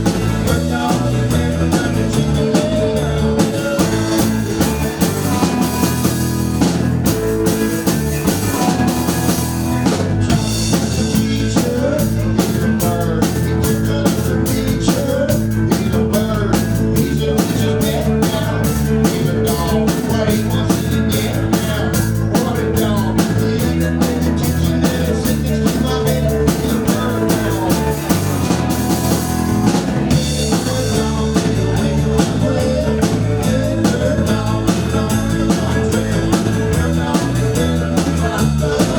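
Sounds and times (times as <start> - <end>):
bass line: 0.0 - 38.9
drum kit beat: 0.0 - 38.9
rock band playing: 0.0 - 38.9.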